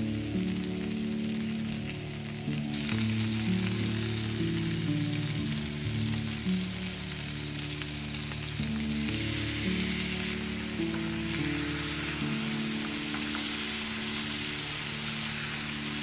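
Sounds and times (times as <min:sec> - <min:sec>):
soft background music: 0:00.0 - 0:16.0
vegetables sizzling in a pan: 0:00.0 - 0:16.0.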